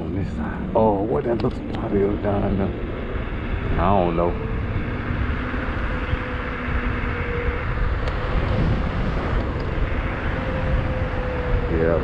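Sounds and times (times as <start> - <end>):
deep rumble: 0.0 - 12.0
electric motor whine: 0.0 - 12.0
wind buffeting microphone: 0.0 - 12.0.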